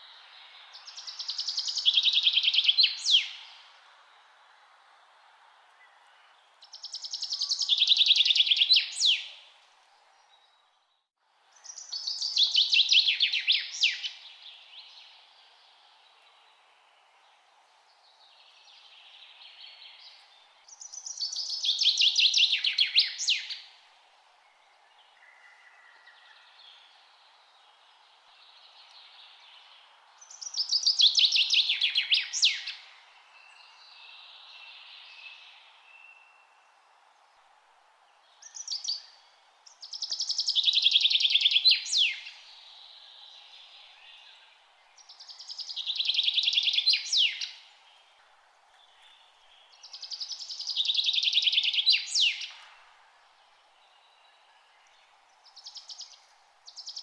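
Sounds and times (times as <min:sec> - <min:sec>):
faint outdoor hiss: 0:00.0 - 0:57.0.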